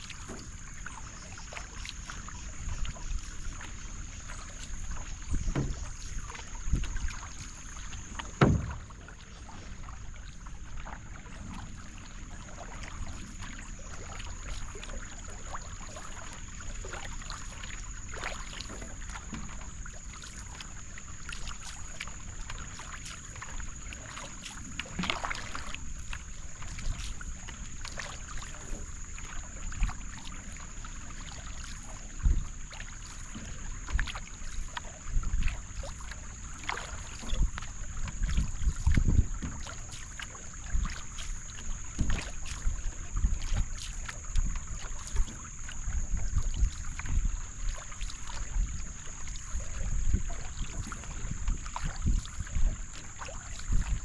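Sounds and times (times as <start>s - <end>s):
paddle knocks: 0.0s - 20.6s, 21.3s - 54.0s
canoe paddle splashing: 0.0s - 54.0s.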